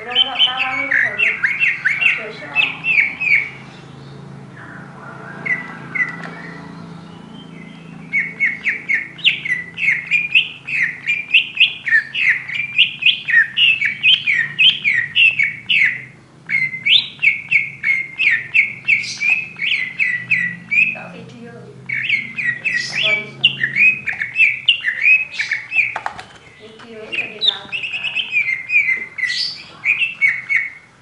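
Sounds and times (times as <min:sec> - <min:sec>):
bird singing sharp notes: 0:00.0 - 0:30.9.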